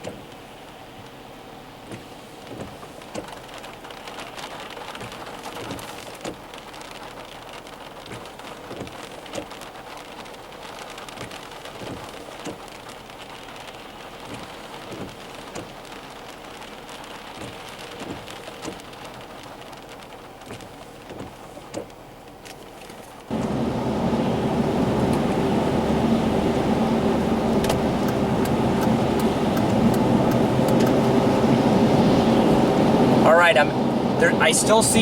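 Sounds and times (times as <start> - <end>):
heavy rain: 0.2 - 21.6, 23.2 - 35.0
raindrops tapping hard surface: 1.8 - 35.0.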